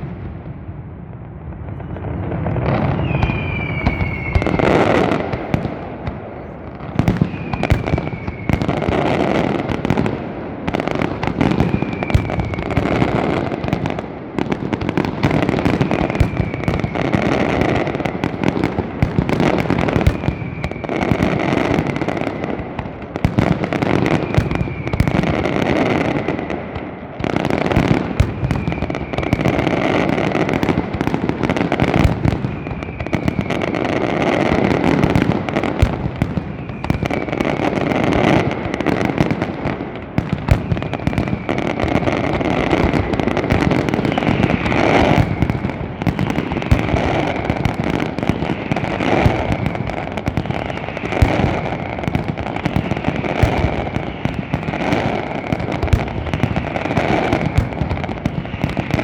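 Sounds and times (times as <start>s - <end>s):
fireworks crackling and banging: 0.0s - 59.0s
falling firework whistle: 1.6s - 22.6s, 23.2s - 59.0s.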